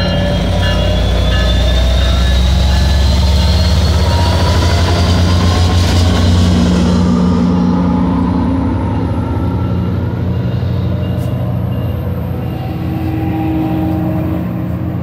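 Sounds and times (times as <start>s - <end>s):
diesel locomotive engine rumble: 0.0s - 15.0s
passenger coaches rolling past: 0.0s - 15.0s.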